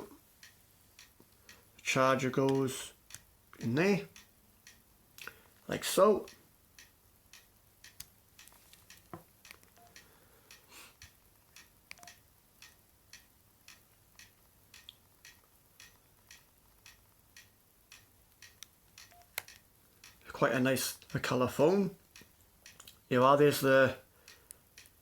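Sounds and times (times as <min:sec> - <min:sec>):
faint even ticking: 0:00.0 - 0:25.0.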